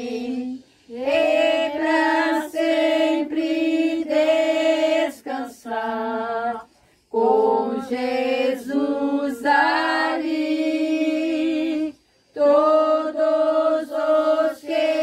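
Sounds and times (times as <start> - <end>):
women singing a hymn a cappella: 0.0 - 15.0.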